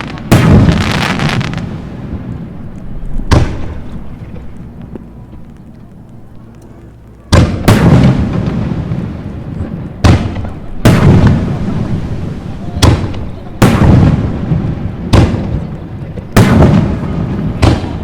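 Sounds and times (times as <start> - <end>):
fireworks booming: 0.0 - 18.0
low rumbling echo: 0.0 - 18.0.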